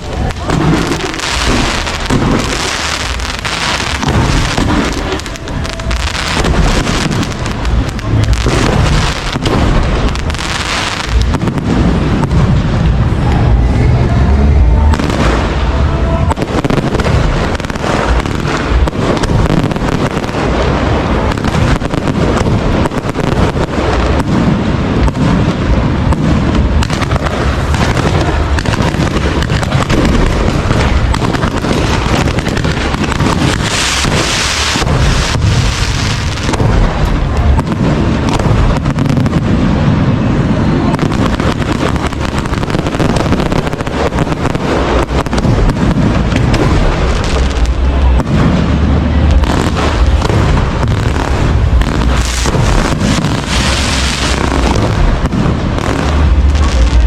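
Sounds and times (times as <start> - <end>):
fireworks booms and crackles: 0.0 - 57.0
hissing crackle: 0.0 - 57.0.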